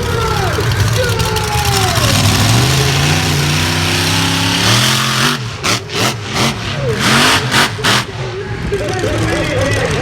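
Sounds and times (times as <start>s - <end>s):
vehicle engine revving: 0.0s - 8.5s
loud noisy background: 0.0s - 10.0s.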